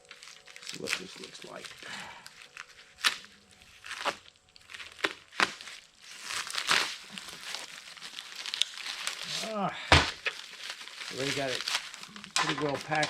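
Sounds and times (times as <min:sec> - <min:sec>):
box packing crinkling and tearing: 0:00.0 - 0:13.0
packing rustling: 0:00.0 - 0:13.0.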